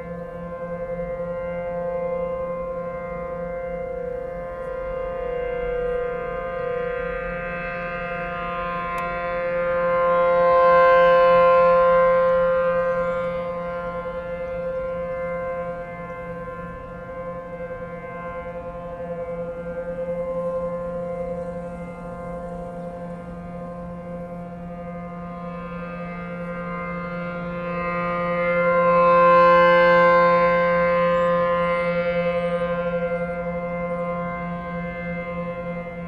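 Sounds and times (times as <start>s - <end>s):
warning siren steady tone: 0.0s - 36.0s.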